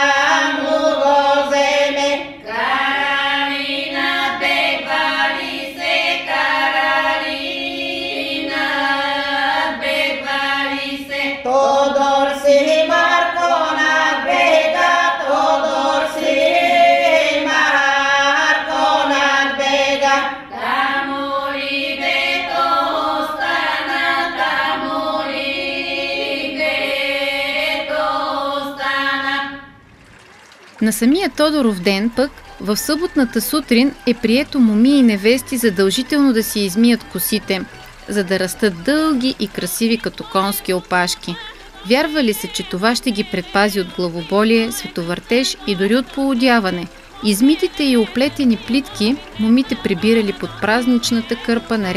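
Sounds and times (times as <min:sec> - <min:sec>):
women singing folk song: 0:00.0 - 0:29.8, 0:30.8 - 0:51.9.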